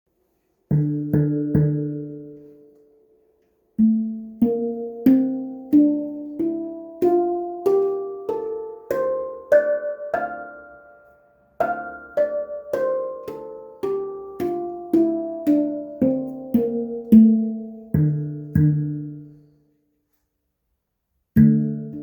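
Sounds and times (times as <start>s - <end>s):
handpan notes ringing: 0.7s - 2.7s, 3.8s - 19.5s, 21.4s - 22.0s.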